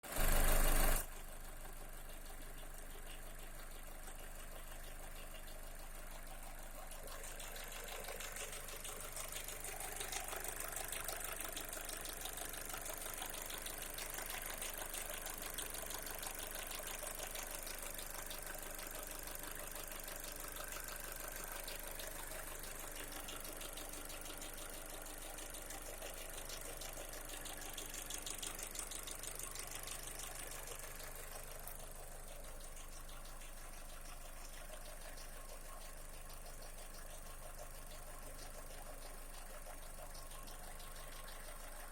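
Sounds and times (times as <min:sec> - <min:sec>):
car engine idling: 0:00.0 - 0:41.9
fast fine engine knocking: 0:00.0 - 0:41.9.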